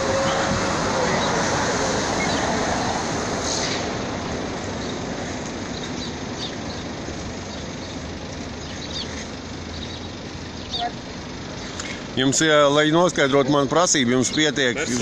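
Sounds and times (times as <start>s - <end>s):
street traffic: 0.0s - 15.0s
vehicle passing: 0.0s - 15.0s.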